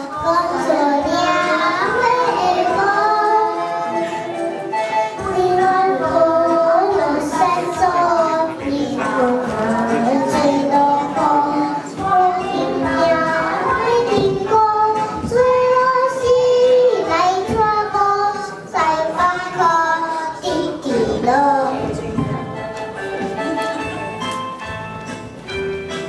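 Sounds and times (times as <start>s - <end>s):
children singing into microphones: 0.0s - 22.5s.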